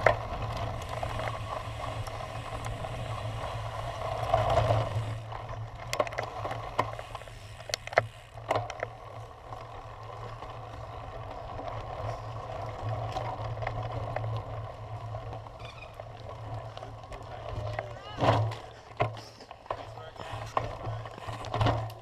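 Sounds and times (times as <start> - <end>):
bike rattling over bumps: 0.0 - 22.0.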